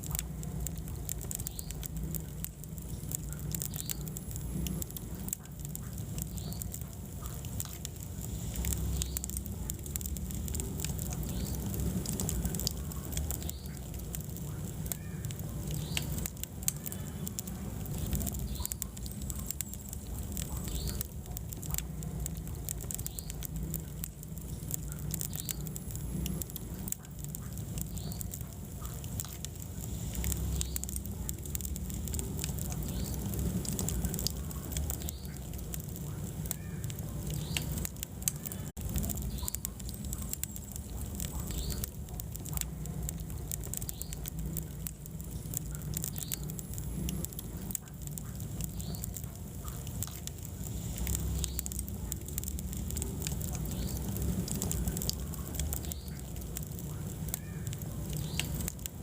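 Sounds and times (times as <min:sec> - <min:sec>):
low rumble of flames: 0:00.0 - 0:59.0
wood fire crackling: 0:00.0 - 0:59.0.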